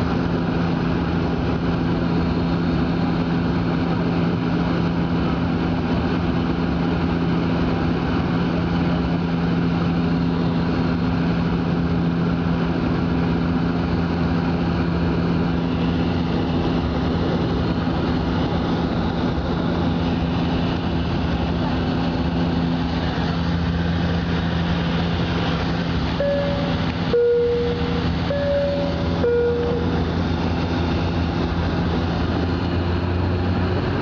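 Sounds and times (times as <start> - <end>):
airliner cabin engine drone: 0.0 - 34.0.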